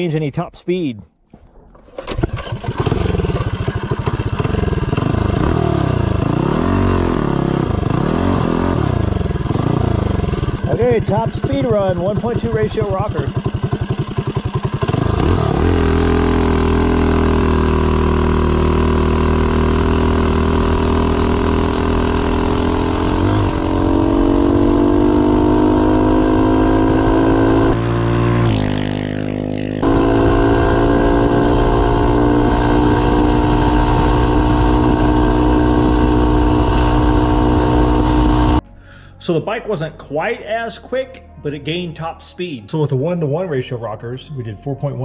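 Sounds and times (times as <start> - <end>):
minibike engine running wide open: 1.8 - 38.6.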